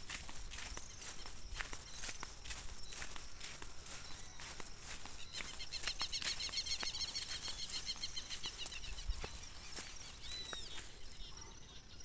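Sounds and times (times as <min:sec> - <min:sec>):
footsteps on dirt road: 0:00.0 - 0:11.4
birds chirping: 0:00.0 - 0:12.0.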